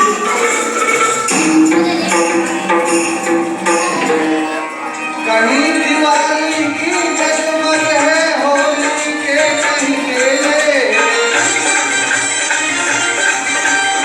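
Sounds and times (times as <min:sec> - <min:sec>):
person singing a melody: 0:00.0 - 0:11.5
held accompanying tones: 0:00.0 - 0:14.0
light percussion: 0:00.0 - 0:14.0.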